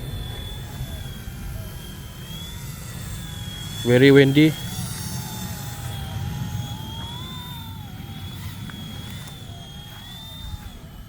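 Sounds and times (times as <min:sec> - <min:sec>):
toy helicopter rotor whining: 0:00.0 - 0:11.0.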